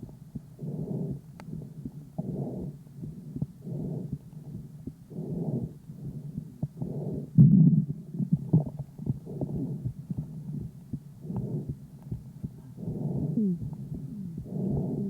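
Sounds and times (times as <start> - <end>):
breaths through a stethoscope: 0.6 - 7.4, 8.1 - 15.0.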